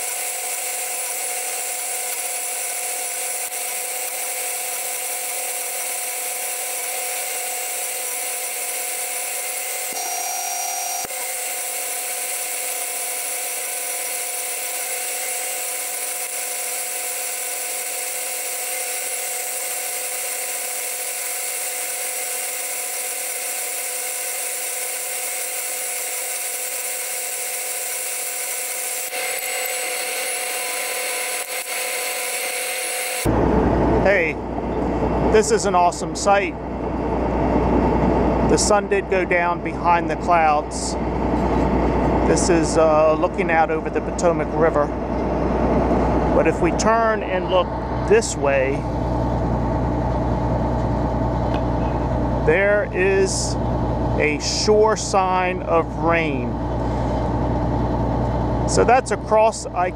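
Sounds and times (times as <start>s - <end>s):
combine harvester whine: 0.0s - 59.9s.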